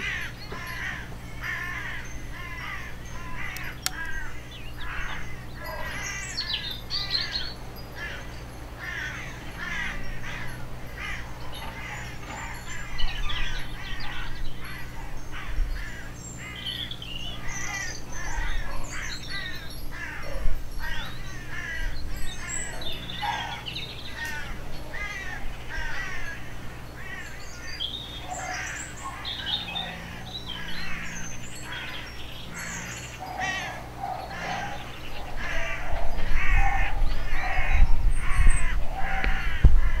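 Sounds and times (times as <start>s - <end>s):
garden birds chirping: 0.0s - 40.0s.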